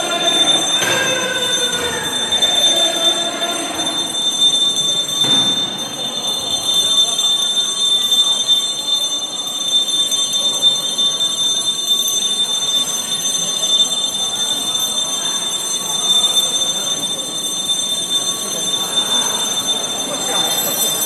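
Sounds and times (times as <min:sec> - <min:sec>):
large crowd murmuring: 0:00.0 - 0:21.0.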